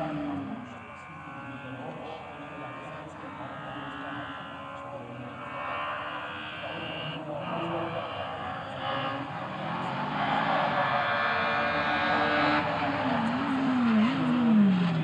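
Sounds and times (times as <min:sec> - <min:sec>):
distant rally car engine revving: 0:00.0 - 0:15.0.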